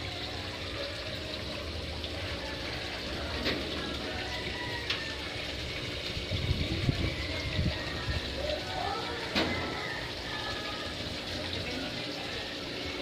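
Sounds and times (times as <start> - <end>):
aquarium filter bubbling: 0.0 - 13.0.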